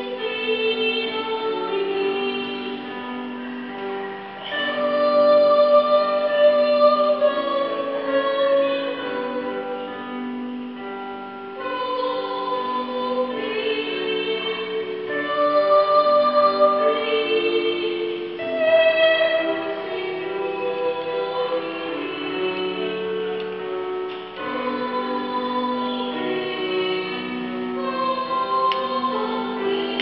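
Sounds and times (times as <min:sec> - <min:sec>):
children's choir singing: 0:00.0 - 0:03.7, 0:04.4 - 0:10.6, 0:11.5 - 0:30.0.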